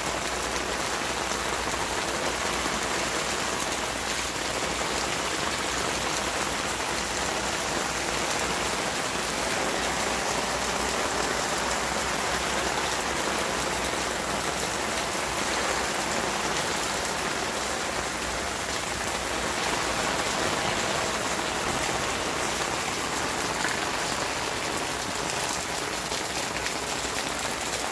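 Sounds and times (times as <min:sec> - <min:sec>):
rain falling on pavement: 0:00.0 - 0:27.9.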